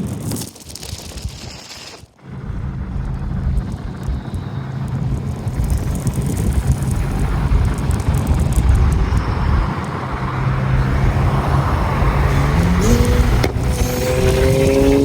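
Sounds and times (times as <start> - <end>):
car engine running: 2.2 - 15.0
road and wind noise: 2.2 - 15.0.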